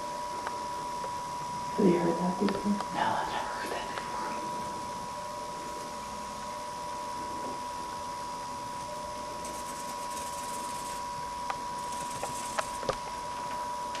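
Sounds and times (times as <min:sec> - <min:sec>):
steady hiss and hum: 0:00.0 - 0:14.0.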